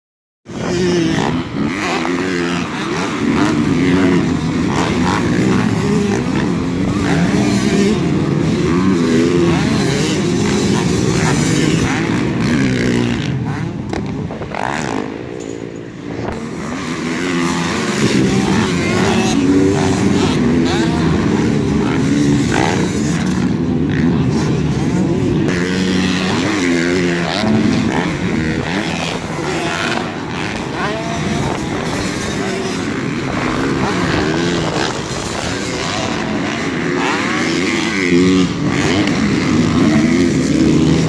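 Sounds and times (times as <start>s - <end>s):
motocross bikes revving: 0.5s - 41.0s.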